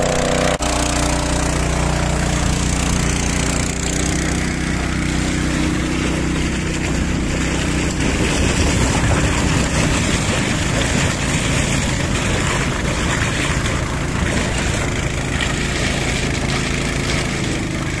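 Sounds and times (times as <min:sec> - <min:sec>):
liquid gushing through hose: 0:00.0 - 0:18.0
motor pump engine hum: 0:00.0 - 0:18.0.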